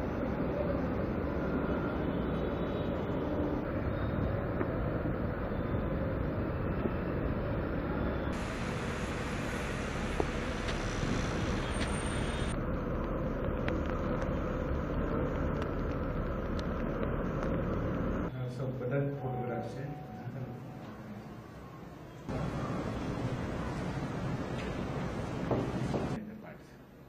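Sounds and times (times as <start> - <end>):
road traffic passing: 0.0 - 18.3, 20.9 - 26.2.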